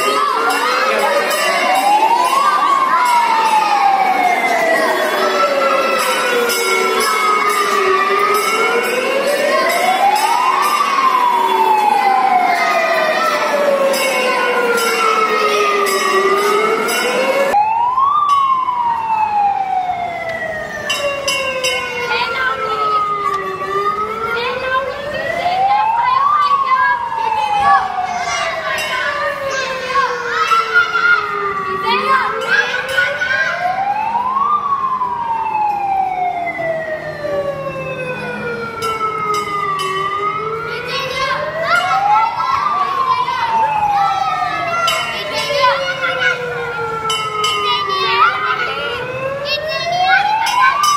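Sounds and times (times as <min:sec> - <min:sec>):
wailing fire engine siren: 0:00.0 - 0:50.9.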